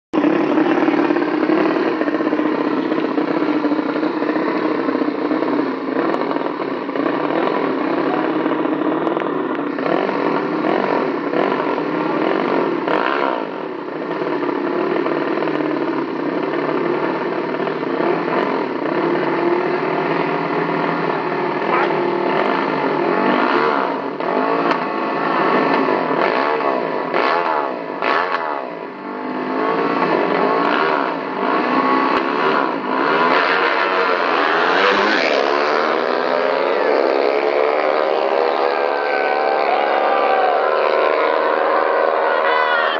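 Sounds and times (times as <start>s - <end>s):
motorcycle engines revving: 0.1s - 42.9s.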